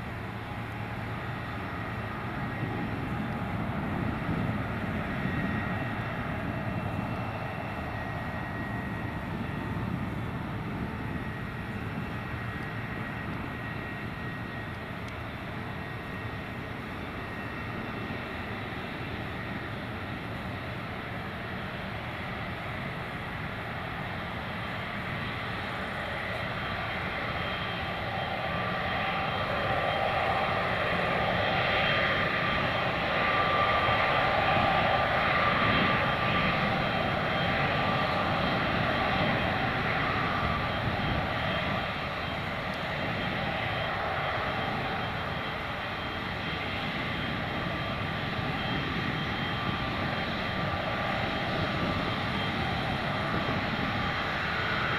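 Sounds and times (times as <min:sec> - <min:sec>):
jet engines running: 0:00.0 - 0:54.9.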